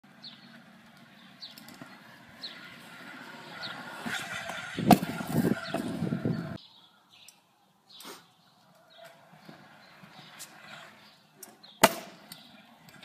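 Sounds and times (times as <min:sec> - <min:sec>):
scooter wheels rolling on concrete: 0:00.0 - 0:13.0
birds chirping: 0:00.1 - 0:13.0.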